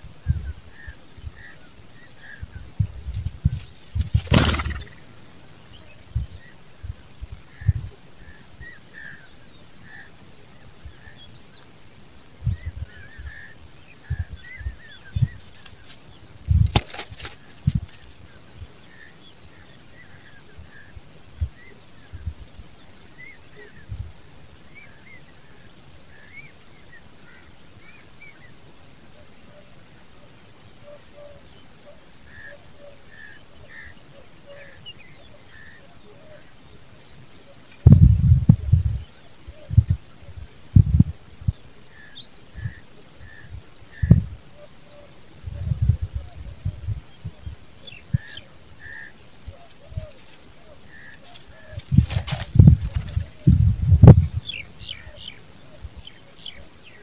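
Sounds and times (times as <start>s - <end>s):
nestlings begging calls: 0.0s - 16.1s, 19.0s - 57.0s.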